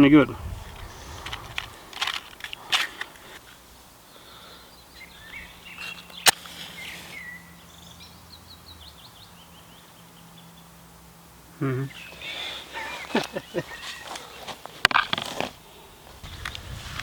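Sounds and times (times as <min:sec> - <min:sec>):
wild birds singing: 0:00.0 - 0:17.0.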